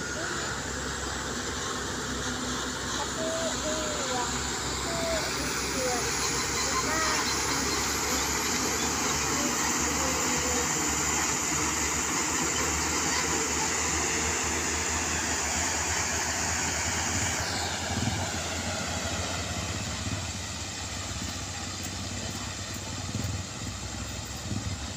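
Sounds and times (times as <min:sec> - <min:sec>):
road noise: 0:00.0 - 0:24.9.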